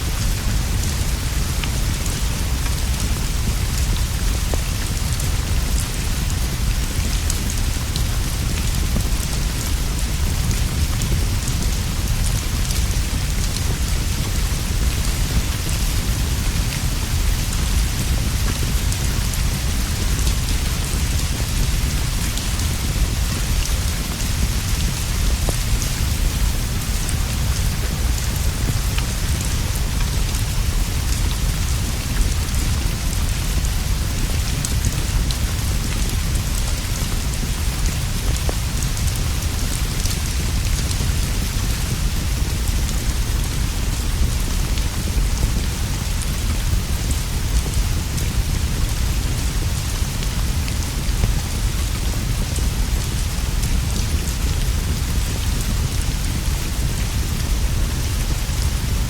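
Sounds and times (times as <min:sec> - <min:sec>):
rain on leaves and roof: 0:00.0 - 0:59.0.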